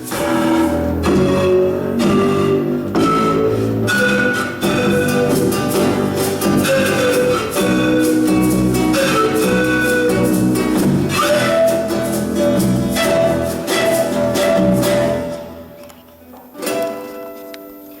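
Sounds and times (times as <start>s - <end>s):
instrumental music with strings: 0.0s - 18.0s.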